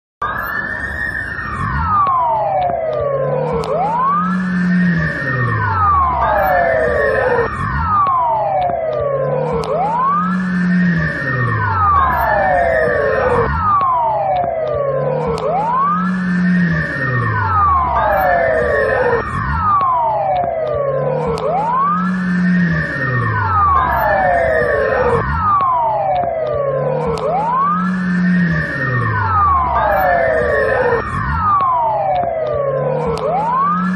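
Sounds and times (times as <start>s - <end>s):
police siren wailing: 0.2s - 33.9s.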